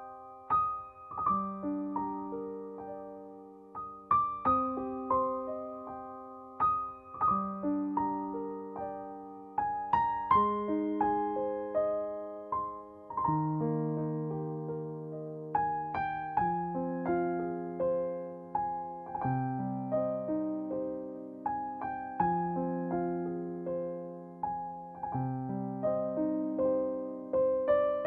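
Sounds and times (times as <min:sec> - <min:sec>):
slow gentle piano piece: 0:00.0 - 0:28.0.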